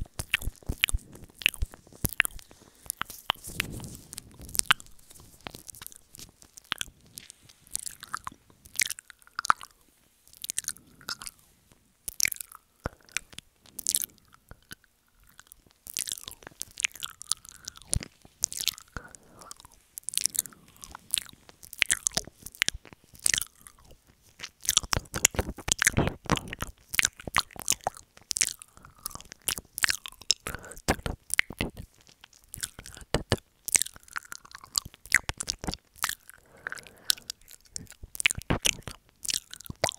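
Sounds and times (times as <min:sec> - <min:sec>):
wet mouth clicks: 0:00.0 - 0:11.5, 0:12.1 - 0:39.9.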